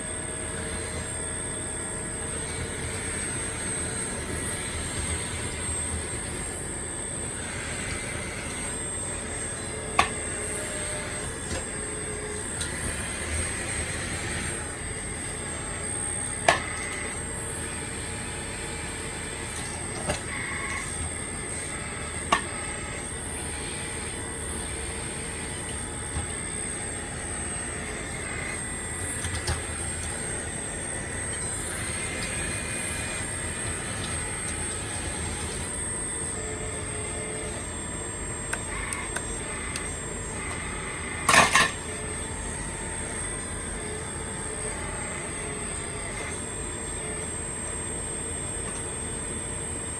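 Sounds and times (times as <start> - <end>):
hydraulic pump whir and whine: 0.0 - 49.9.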